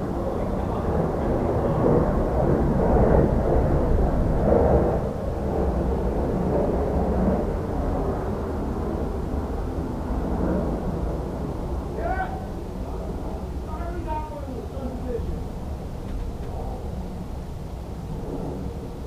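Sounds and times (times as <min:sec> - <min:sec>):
airplane passing overhead: 0:00.0 - 0:19.0.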